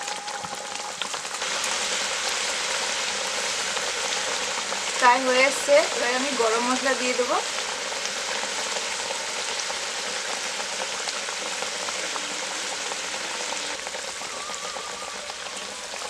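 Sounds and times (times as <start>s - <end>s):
curry bubbling and sizzling: 0.0s - 16.0s.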